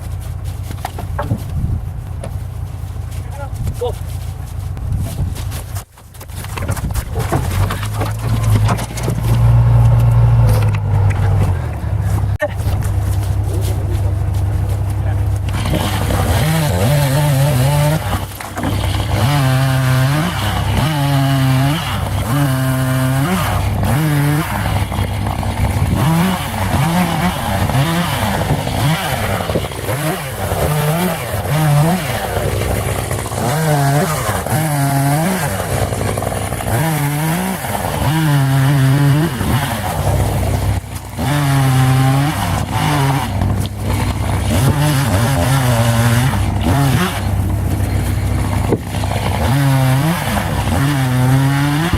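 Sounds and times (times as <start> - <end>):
chainsaw revving: 7.2 - 51.9.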